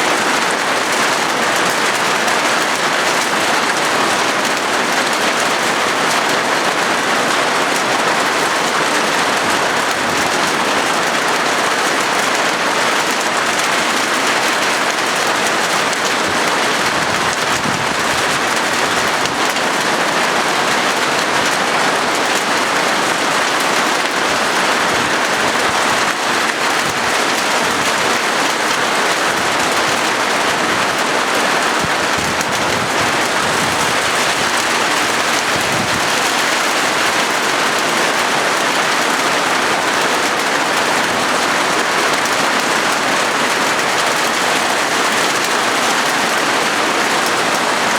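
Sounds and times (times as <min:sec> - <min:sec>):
rain on a metal roof: 0:00.0 - 0:47.9.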